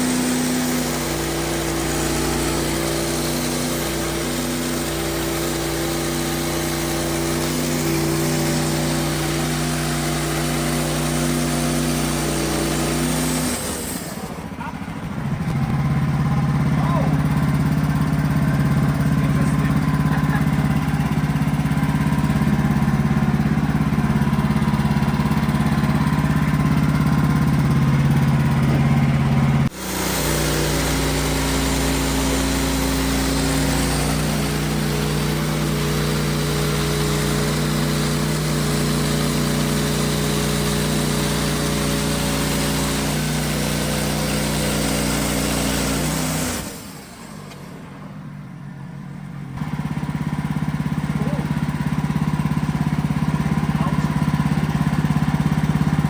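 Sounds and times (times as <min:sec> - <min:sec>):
saw blade cutting log: 0:00.0 - 0:47.8, 0:50.5 - 0:56.0
band sawmill running: 0:00.0 - 0:56.0.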